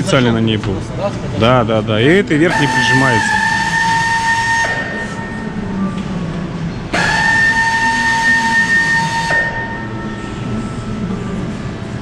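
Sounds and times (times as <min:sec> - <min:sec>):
machine whine: 0:01.4 - 0:12.0.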